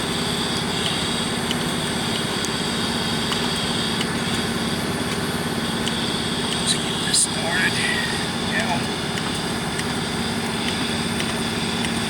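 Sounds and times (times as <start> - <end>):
machine drone with low hum: 0.0 - 12.0
faint regular ticks: 0.1 - 7.8, 8.5 - 12.0.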